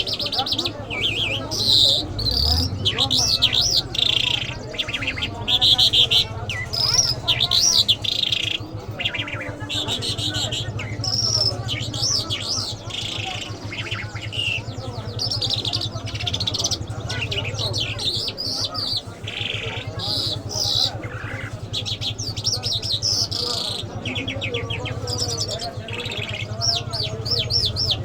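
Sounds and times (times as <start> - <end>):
lark singing: 0.0 - 28.0.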